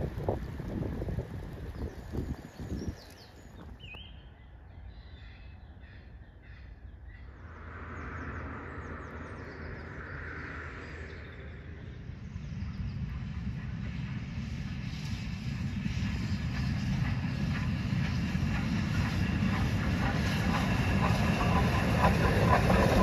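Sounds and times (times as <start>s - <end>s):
steam train rumble: 0.0s - 3.8s, 7.3s - 23.0s
wind: 0.0s - 23.0s.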